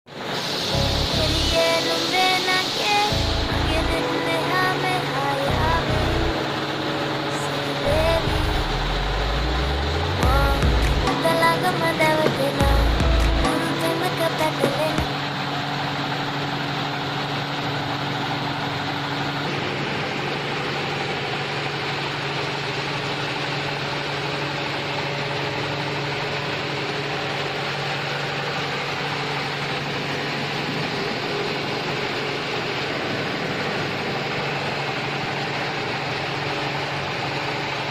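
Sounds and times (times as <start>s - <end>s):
machine hum: 0.1s - 37.9s.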